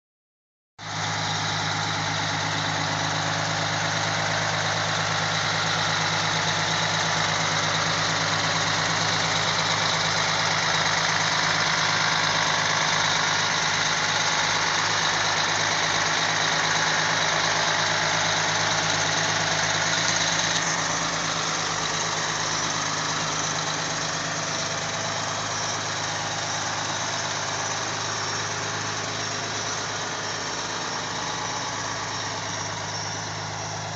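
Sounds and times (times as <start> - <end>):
diesel engine idling: 0.8 - 33.9.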